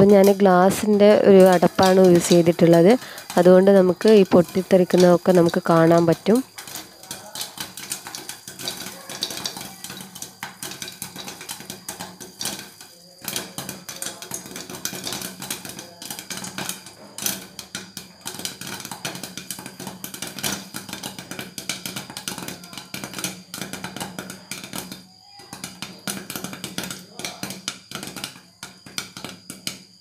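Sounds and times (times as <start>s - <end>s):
popcorn popping in a pan: 0.0s - 30.0s.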